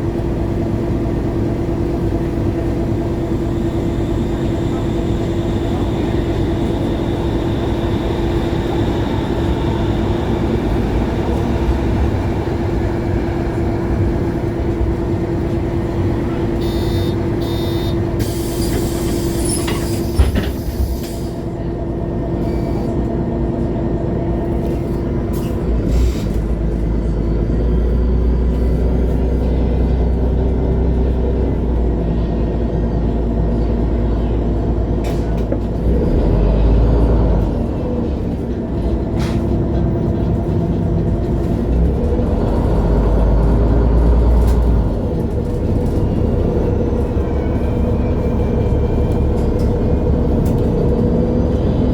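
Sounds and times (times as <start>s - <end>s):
bus diesel engine rumble: 0.0s - 51.9s.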